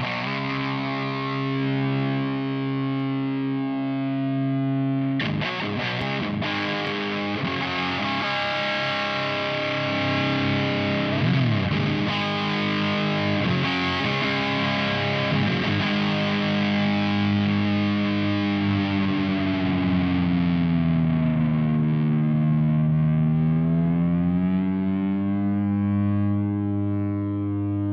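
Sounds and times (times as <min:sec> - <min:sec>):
distorted electric guitar chords: 0:00.0 - 0:27.9.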